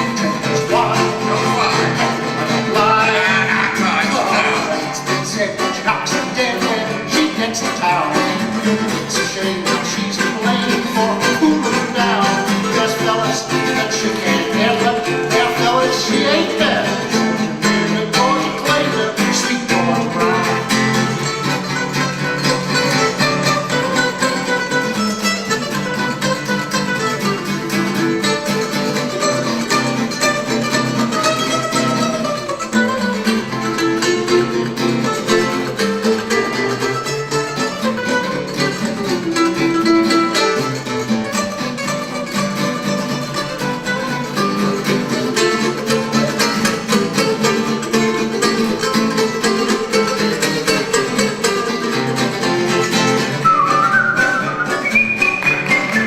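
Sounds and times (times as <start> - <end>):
plucked string music: 0.0 - 56.0.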